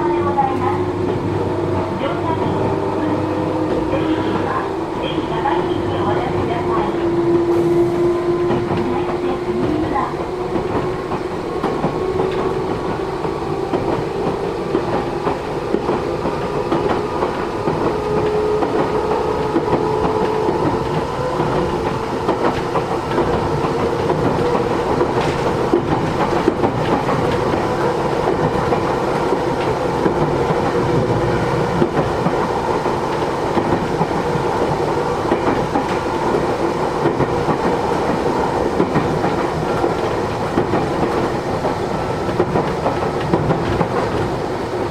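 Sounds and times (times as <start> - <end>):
clickety-clack of rail joints: 0.0 - 44.9
train wheels rumbling on rail: 0.0 - 44.9.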